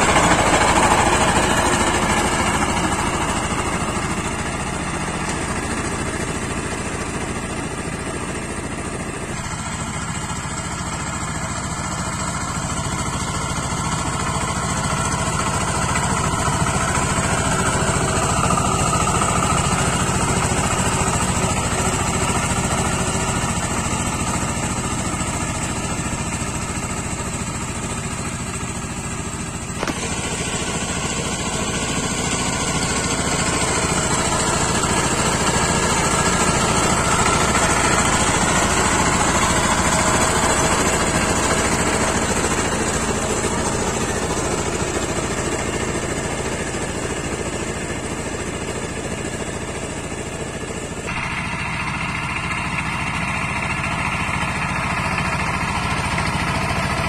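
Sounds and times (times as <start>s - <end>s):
tiller diesel engine running: 0.0s - 57.0s.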